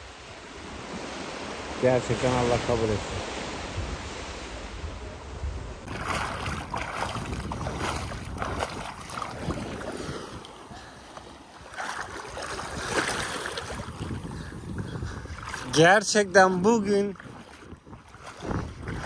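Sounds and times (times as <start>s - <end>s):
sea water splashing and rushing: 0.0s - 19.0s
wind buffeting microphone: 2.9s - 11.0s, 11.6s - 19.0s.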